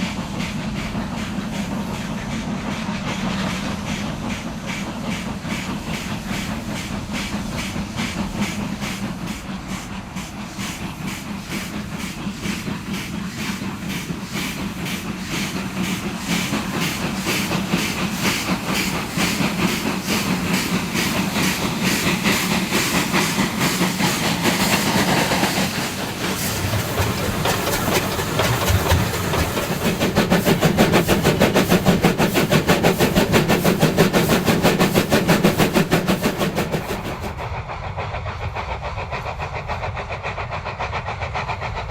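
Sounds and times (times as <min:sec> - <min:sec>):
steam hissing: 0:00.0 - 0:41.9
steam locomotive exhaust beats: 0:00.0 - 0:41.9.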